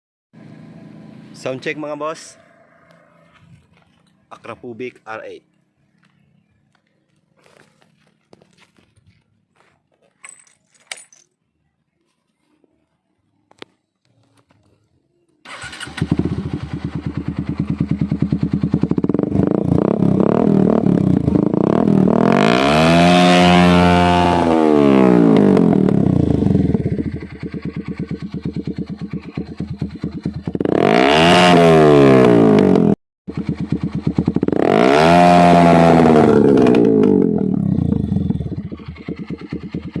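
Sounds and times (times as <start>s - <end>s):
motorcycle engine idling and revving: 0.3s - 10.5s, 15.4s - 40.0s.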